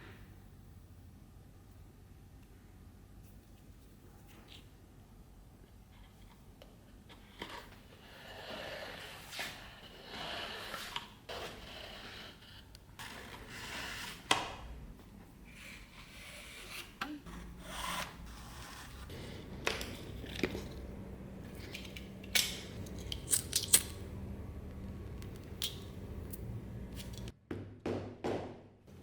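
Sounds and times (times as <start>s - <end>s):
faint steady hum: 0.0s - 27.3s.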